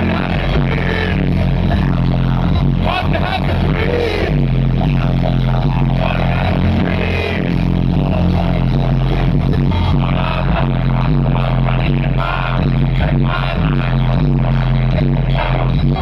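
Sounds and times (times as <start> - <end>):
heavy bass line: 0.0 - 16.0
rap vocals: 0.0 - 16.0.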